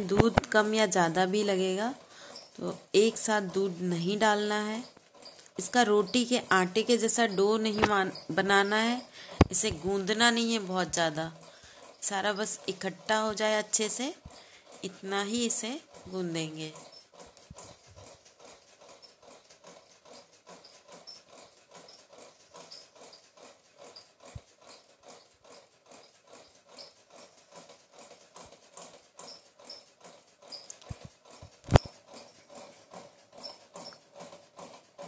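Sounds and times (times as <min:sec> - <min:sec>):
hand mixing dough in bowl: 0:00.0 - 0:35.0.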